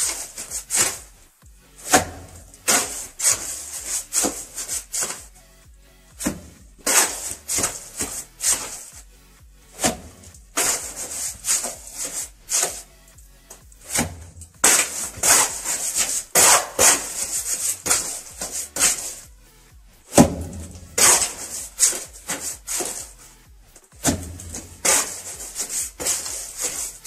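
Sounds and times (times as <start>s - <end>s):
trowel scraping mortar: 0.0s - 1.2s, 1.8s - 5.3s, 6.2s - 9.0s, 9.7s - 12.9s, 13.5s - 19.2s, 20.1s - 23.2s, 23.8s - 27.0s.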